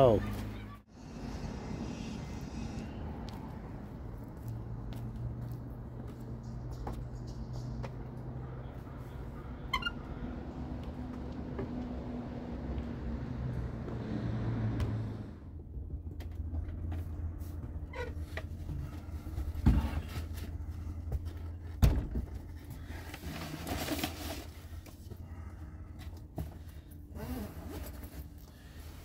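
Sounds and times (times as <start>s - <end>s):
low rumble from outside: 0.1s - 29.0s.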